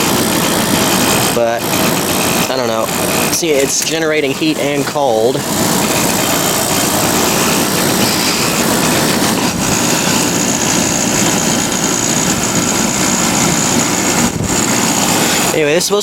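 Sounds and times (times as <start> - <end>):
air conditioner fan rushing air: 0.0 - 16.0
buzzing compressor: 0.0 - 16.0
steady high whine: 0.0 - 16.0.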